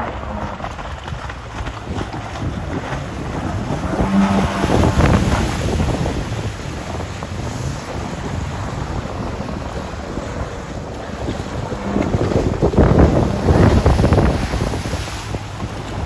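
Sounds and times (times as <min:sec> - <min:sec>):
personal watercraft engine: 0:00.0 - 0:16.0
rush of water and spray: 0:00.0 - 0:16.0
wind on microphone: 0:00.0 - 0:16.0.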